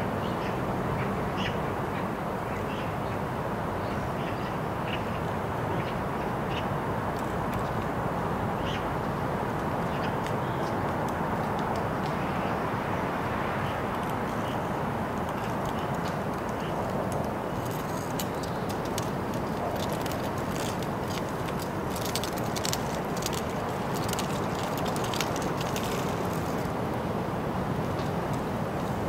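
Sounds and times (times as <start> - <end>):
low rumble of city noise: 0.0 - 29.0.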